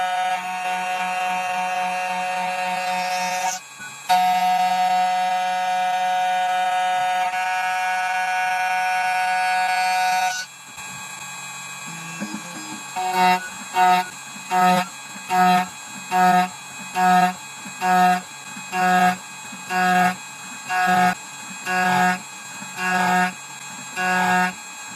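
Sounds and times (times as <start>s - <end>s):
steady buzzing tone: 0.0s - 24.9s.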